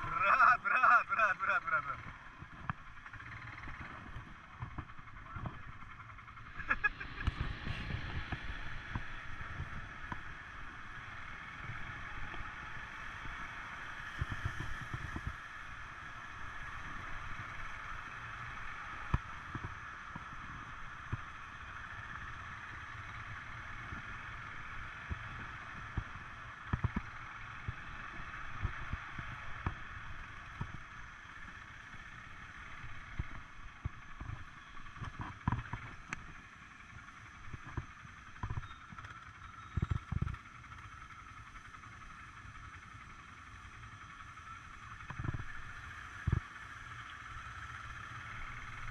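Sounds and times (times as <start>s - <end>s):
quad bike engine running: 0.0s - 48.9s.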